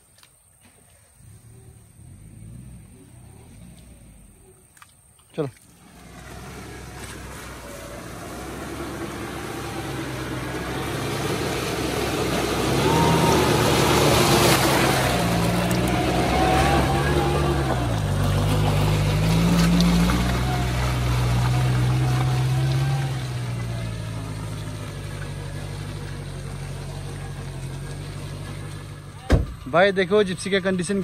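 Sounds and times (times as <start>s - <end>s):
car engine revving: 1.3s - 4.7s, 5.7s - 31.0s
tyres churning mud and water: 4.6s - 31.0s.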